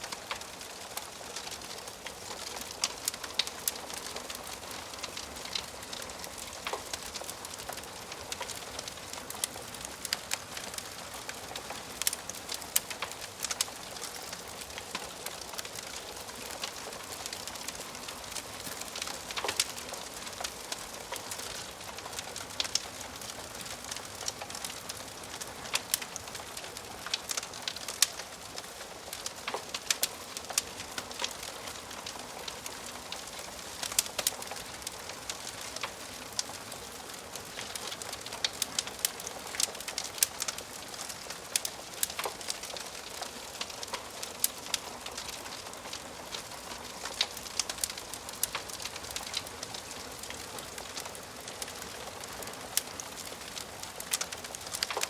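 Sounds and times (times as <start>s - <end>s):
fire popping and snapping: 0.0s - 55.0s
wood fire hissing: 0.0s - 55.0s.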